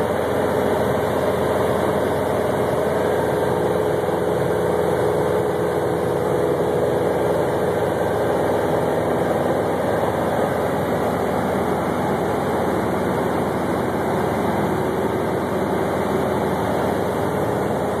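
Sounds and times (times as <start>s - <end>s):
light aircraft engine droning: 0.0s - 18.0s.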